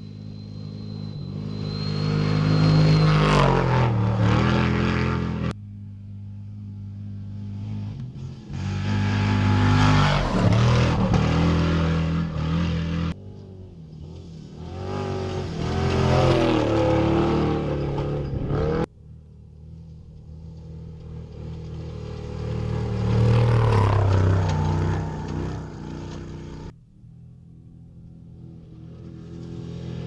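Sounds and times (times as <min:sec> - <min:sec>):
race truck engines accelerating: 0:00.0 - 0:05.6, 0:06.7 - 0:18.9, 0:19.6 - 0:26.7.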